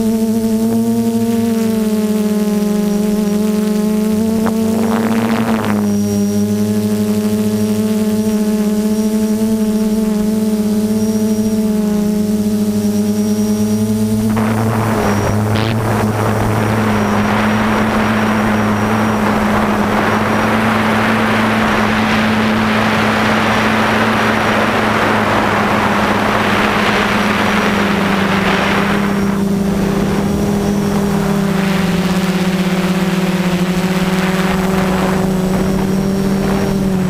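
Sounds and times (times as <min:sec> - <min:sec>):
drone motors humming: 0:00.0 - 0:37.0
wind over microphone: 0:03.2 - 0:10.3, 0:11.6 - 0:37.0.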